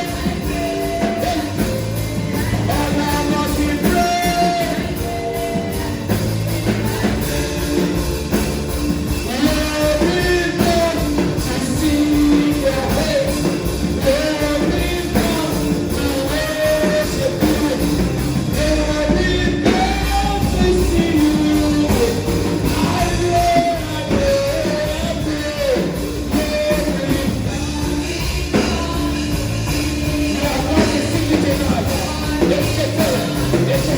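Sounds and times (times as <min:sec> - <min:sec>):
band playing: 0:00.0 - 0:33.9
person singing: 0:00.0 - 0:33.9.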